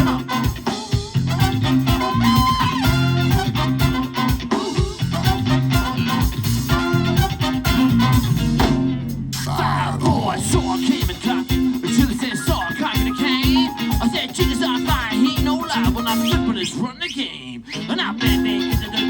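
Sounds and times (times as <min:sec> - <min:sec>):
live band playing instrumental: 0:00.0 - 0:09.4, 0:10.0 - 0:16.6, 0:18.2 - 0:19.0.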